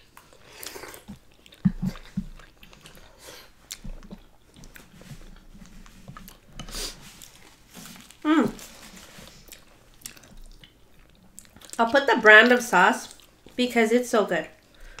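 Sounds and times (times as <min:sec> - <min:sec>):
chewing and mouth sounds: 0:00.0 - 0:13.6.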